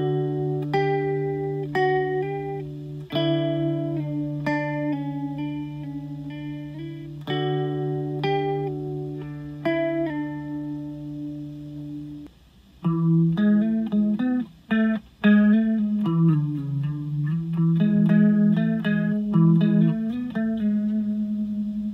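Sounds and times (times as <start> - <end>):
electric guitar with chorus: 0.0 - 21.9.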